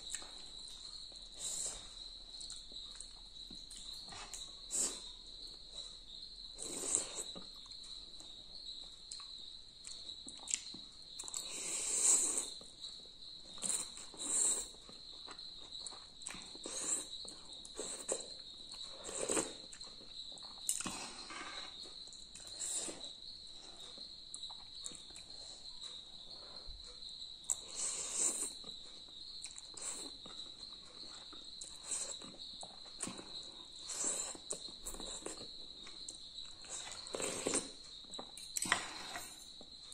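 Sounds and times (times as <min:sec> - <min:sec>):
chewing: 0:00.0 - 0:05.6, 0:09.0 - 0:39.7.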